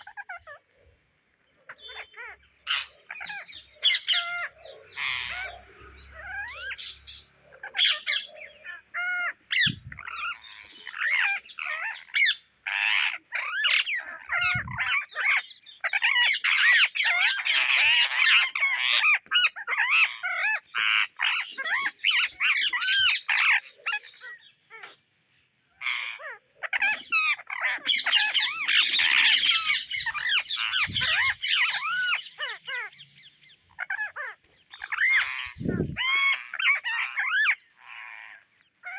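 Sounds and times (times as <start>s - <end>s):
parrots chattering and squawking: 0.0s - 38.9s.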